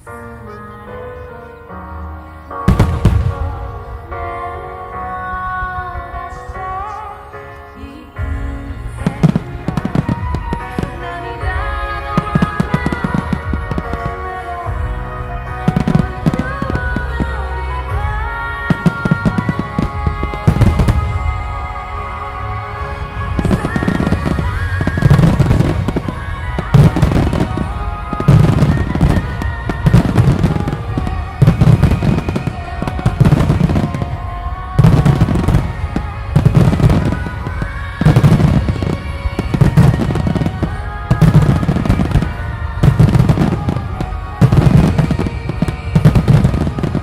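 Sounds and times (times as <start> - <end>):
music playing: 0.0 - 47.0
fireworks booming: 2.5 - 7.0, 8.2 - 47.0.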